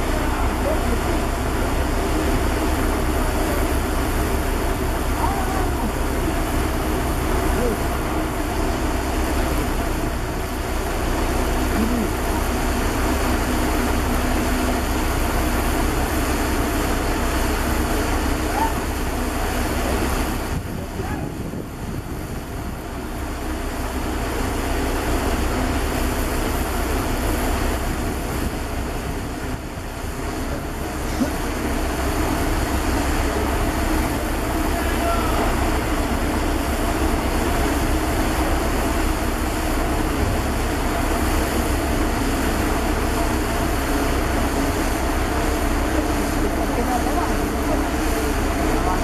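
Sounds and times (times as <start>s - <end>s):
crane diesel engine rumbling: 0.0s - 49.0s.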